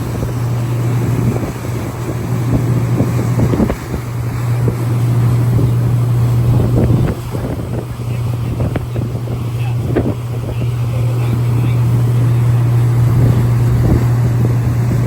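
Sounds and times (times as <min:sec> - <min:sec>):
steady low hum: 0:00.0 - 0:15.0
wind gusting on microphone: 0:00.0 - 0:15.0.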